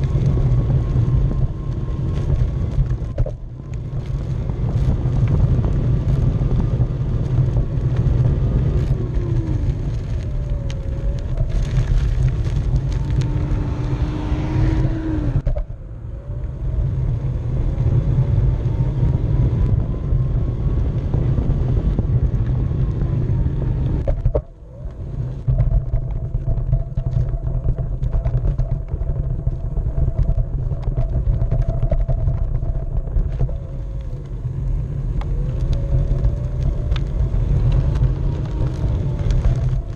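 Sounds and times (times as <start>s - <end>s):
wheel rumbling on asphalt: 0.0s - 39.9s.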